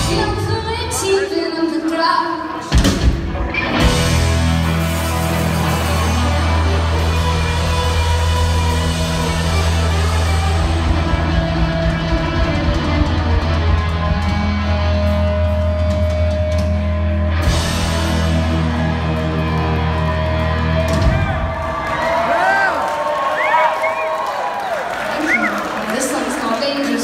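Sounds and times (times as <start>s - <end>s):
bass: 0.0s - 27.0s
drums: 0.0s - 27.0s
electric guitars: 0.0s - 27.0s.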